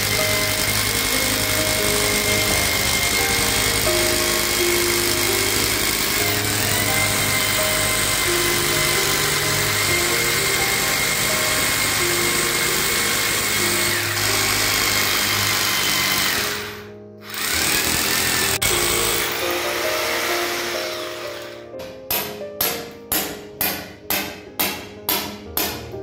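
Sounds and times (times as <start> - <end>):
rotary hammer drilling concrete: 0.0 - 21.7
background music: 0.0 - 26.0.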